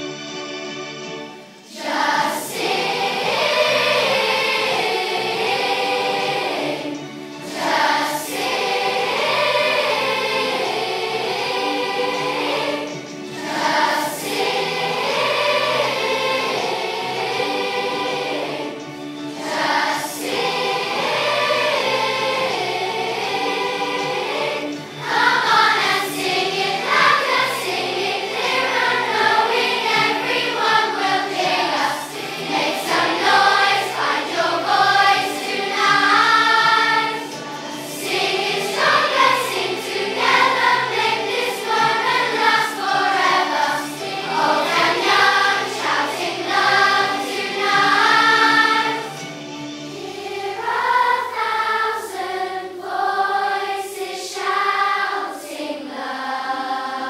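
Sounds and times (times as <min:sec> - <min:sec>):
children's choir singing: 0:00.0 - 0:57.0
choir breaths: 0:01.4 - 0:57.0.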